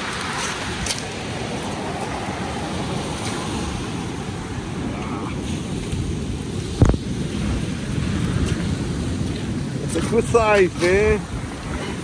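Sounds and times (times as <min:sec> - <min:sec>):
surf washing over pebbles: 0:00.0 - 0:12.0
wind buffeting microphone: 0:00.0 - 0:12.0.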